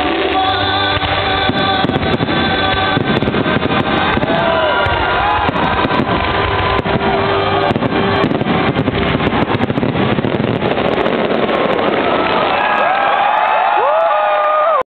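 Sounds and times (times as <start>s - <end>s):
fireworks barrage: 0.0s - 13.8s.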